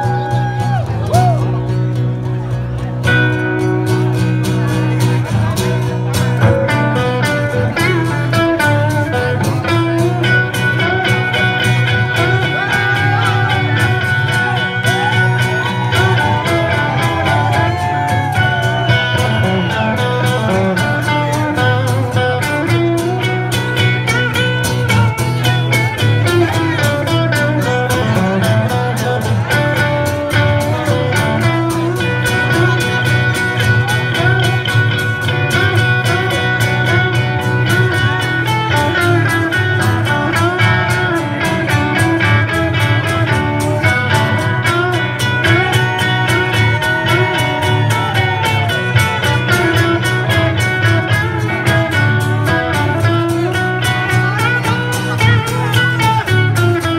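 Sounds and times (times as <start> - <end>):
live band with guitars: 0.0 - 56.9
melodic lead line: 0.0 - 56.9.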